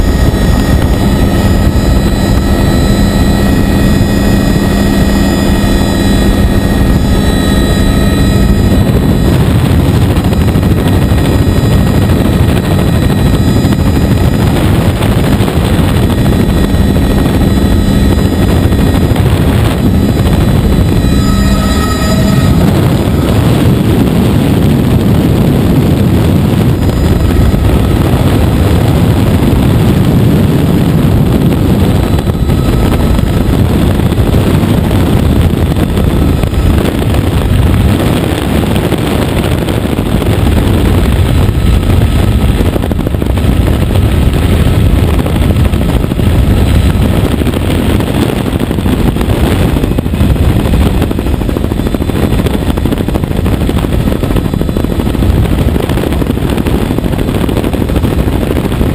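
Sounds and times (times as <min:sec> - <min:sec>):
helicopter rotor and engine: 0:00.0 - 0:58.9.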